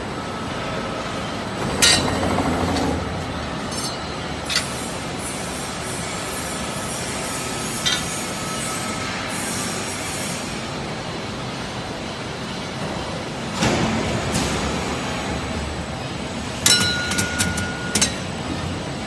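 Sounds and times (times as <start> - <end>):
roll forming machine running: 0.0 - 19.0.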